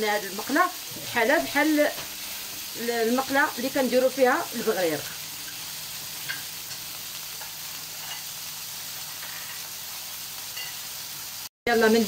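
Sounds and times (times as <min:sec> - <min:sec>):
meat patties sizzling in a pan: 0:00.0 - 0:12.0.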